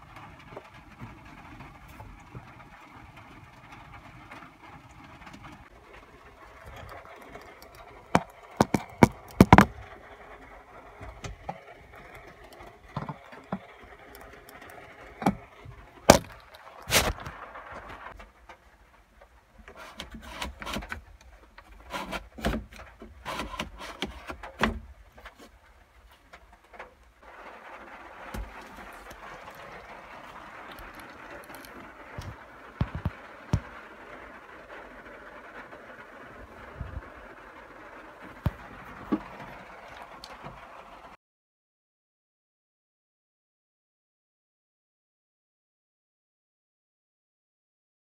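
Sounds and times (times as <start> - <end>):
quiet scraping: 0.0 - 41.2.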